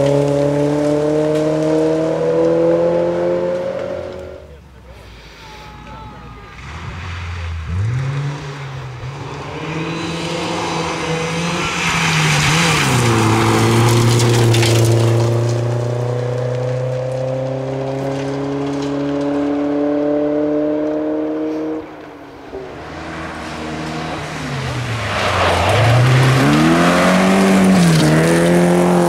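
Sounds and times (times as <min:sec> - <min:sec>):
rally car engine pulling hard: 0:00.0 - 0:05.2, 0:06.5 - 0:29.0
gravel and tyre noise: 0:00.0 - 0:29.0.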